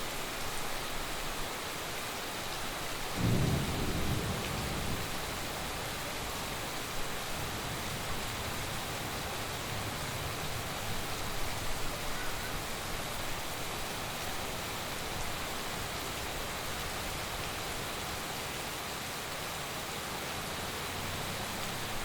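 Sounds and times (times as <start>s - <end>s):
heavy rain falling: 0.0s - 22.0s
rain spatters: 0.0s - 22.0s.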